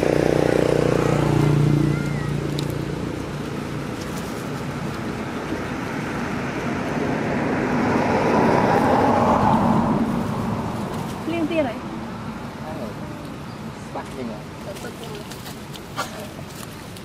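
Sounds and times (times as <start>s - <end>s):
vehicle engine with road noise: 0.0s - 17.0s.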